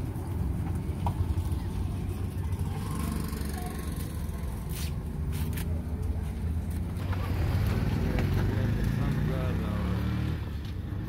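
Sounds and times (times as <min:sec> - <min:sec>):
motor engines idling: 0:00.0 - 0:09.8
street traffic rumble: 0:00.0 - 0:11.0.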